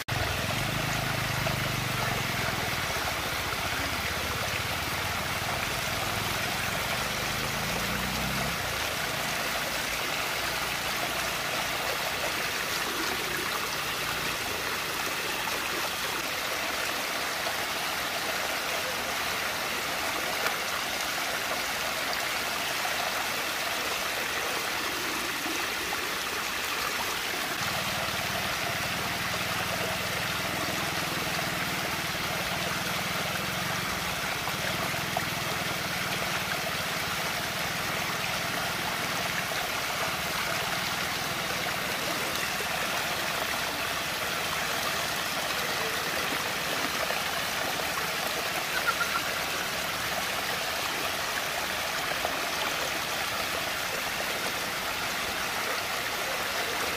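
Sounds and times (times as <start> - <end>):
water swirling and draining: 0.0 - 56.5.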